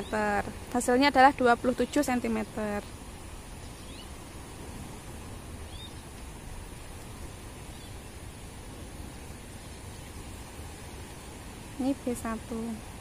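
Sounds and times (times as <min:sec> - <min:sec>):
hiss with low rumble: 0:00.0 - 0:13.0.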